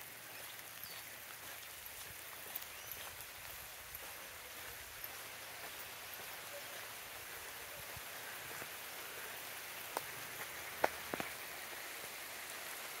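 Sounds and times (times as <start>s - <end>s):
single raindrops: 0.0s - 13.0s
steady rain falling: 0.0s - 13.0s.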